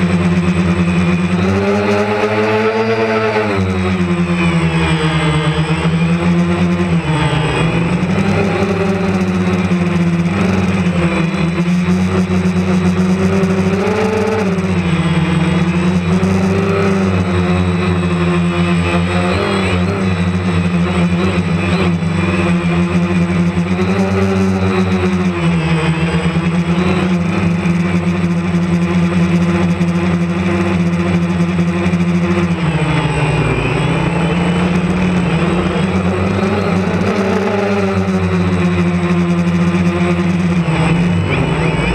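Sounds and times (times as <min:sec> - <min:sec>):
drone propellers buzzing: 0:00.0 - 0:41.9.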